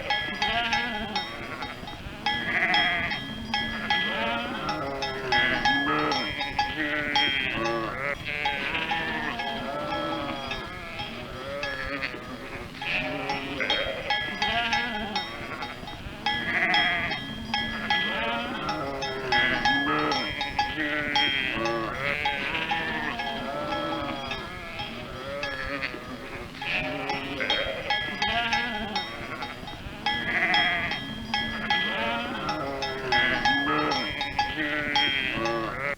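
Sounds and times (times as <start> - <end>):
sheep bleating: 0.0 - 35.9.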